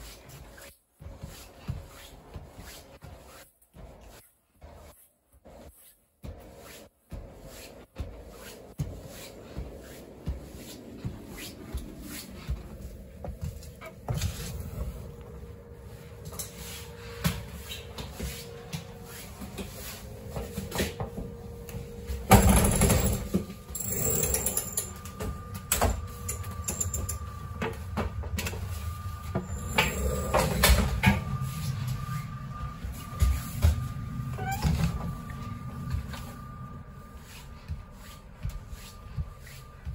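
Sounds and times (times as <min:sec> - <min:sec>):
steady thin whine: 0:07.6 - 0:39.9.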